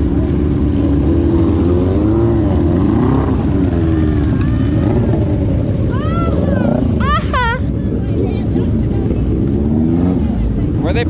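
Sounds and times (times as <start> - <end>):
vehicle engines revving: 0.0 - 11.0.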